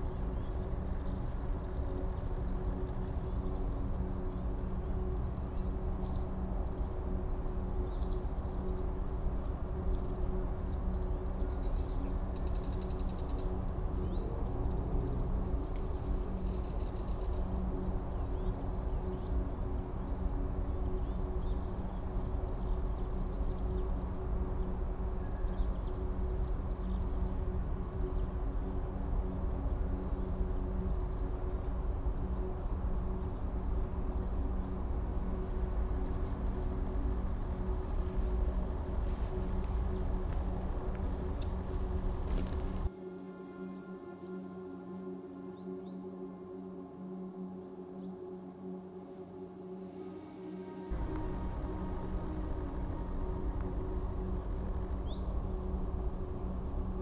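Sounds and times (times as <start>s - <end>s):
low hum and rumble: 0.0s - 42.9s, 50.9s - 57.0s.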